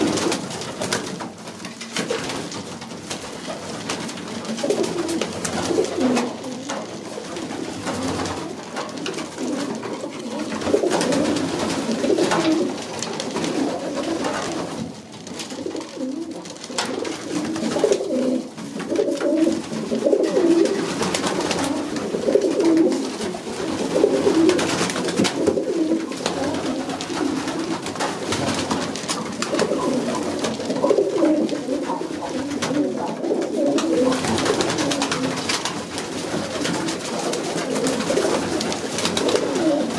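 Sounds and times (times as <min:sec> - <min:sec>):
pigeons cooing: 0:00.0 - 0:00.6, 0:04.4 - 0:14.8, 0:15.4 - 0:39.9.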